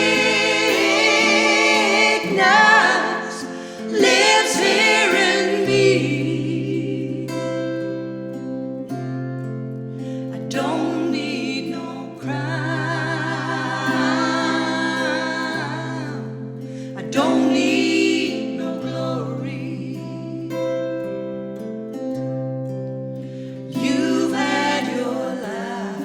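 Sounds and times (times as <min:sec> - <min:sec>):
women singing harmony: 0:00.0 - 0:08.5, 0:10.1 - 0:20.7, 0:23.5 - 0:26.0
guitar chords: 0:00.0 - 0:26.0.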